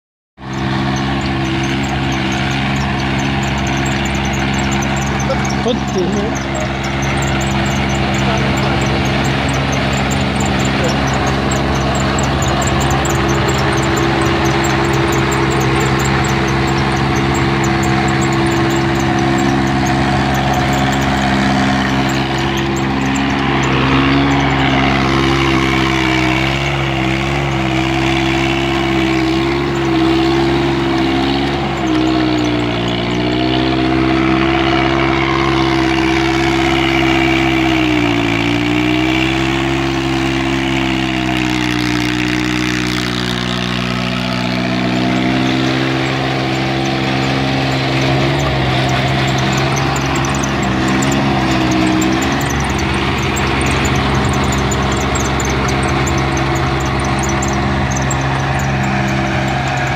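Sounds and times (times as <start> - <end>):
tractor diesel engine running: 0.4 - 59.9.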